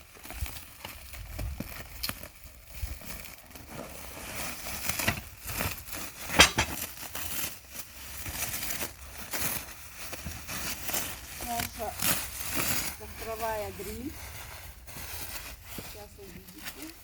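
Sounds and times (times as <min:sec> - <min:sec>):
packaging crinkling and rustling: 0:00.0 - 0:17.0.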